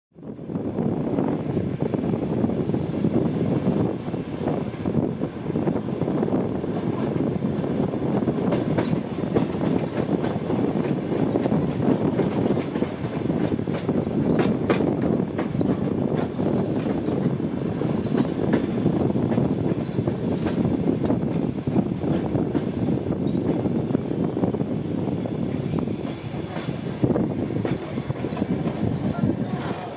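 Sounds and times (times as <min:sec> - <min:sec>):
train wheels rumbling on rails: 0:00.2 - 0:29.9.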